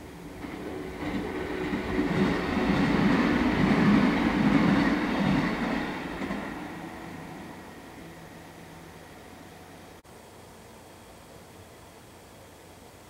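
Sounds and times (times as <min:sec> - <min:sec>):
electric train passing: 0:00.0 - 0:10.7.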